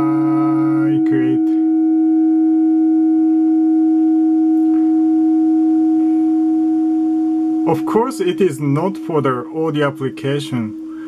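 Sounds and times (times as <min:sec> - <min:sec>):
loud steady ringing tone: 0:00.0 - 0:11.0.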